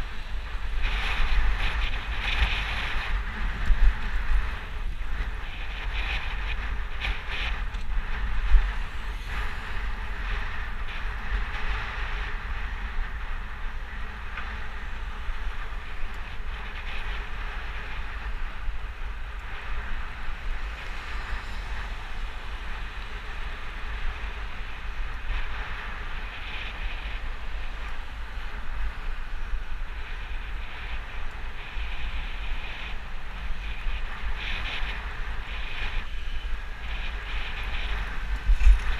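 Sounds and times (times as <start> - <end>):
passing traffic: 0.0 - 38.9
tyre road noise: 0.0 - 38.9
wind buffeting microphone: 0.0 - 38.9.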